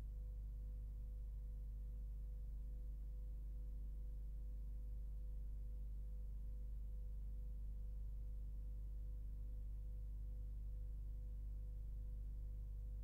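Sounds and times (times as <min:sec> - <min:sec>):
low mains hum: 0:00.0 - 0:13.0.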